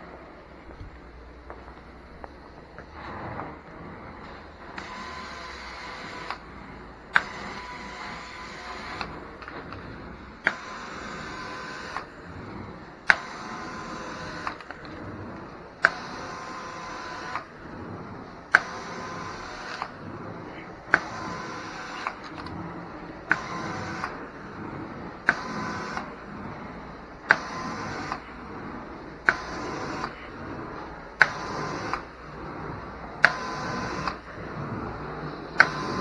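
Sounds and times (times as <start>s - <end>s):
extractor suction running: 0.2s - 36.0s.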